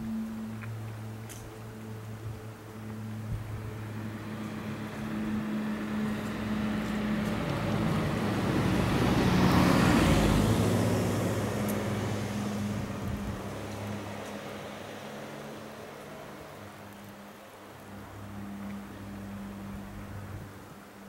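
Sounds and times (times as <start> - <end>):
vehicle passing by: 2.8 - 21.0.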